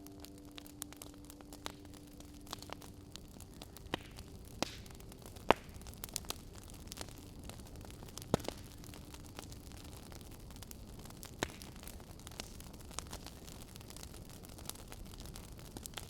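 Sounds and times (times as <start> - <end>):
low hiss: 0.0 - 16.0
wood fire crackling: 0.0 - 16.0.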